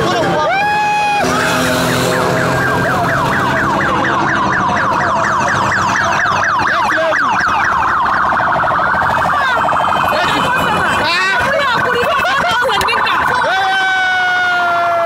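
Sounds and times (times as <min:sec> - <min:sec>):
police sirens yelping: 0:00.0 - 0:15.0.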